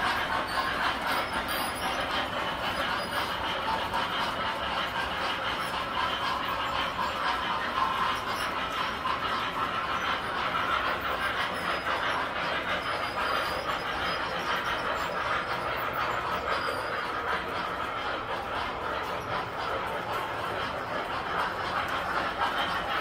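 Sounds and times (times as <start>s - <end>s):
model train wheels rattling on rail: 0.0s - 23.0s.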